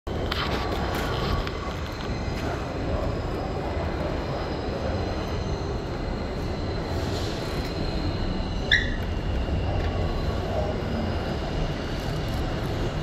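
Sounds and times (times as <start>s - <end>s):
commuter train rumble: 0.1s - 13.0s
high-pitched whine: 0.1s - 13.0s.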